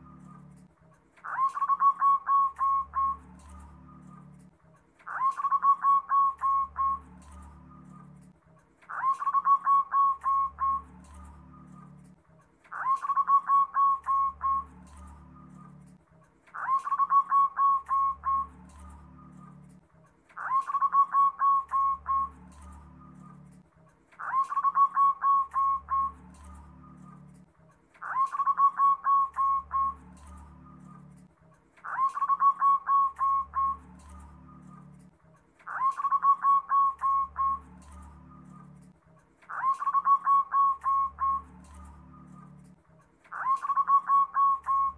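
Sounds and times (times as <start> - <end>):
dove cooing: 0.0 - 8.3, 8.9 - 19.8, 20.4 - 23.6, 24.2 - 38.8, 39.5 - 42.7, 43.3 - 44.9.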